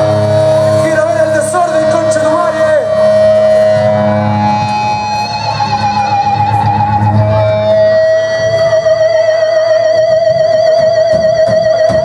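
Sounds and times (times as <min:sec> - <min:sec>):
electric bass guitar: 0:00.0 - 0:12.0
electric guitar lead note: 0:00.0 - 0:12.0.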